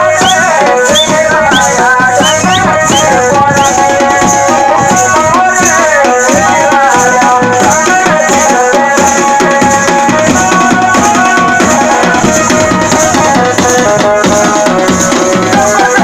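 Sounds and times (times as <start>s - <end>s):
hand drums beating fast rhythm: 0.0s - 16.0s.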